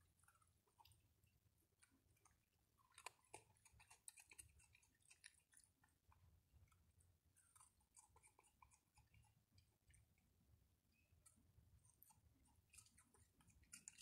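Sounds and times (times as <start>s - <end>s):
animal chewing and crunching: 0.0s - 14.0s.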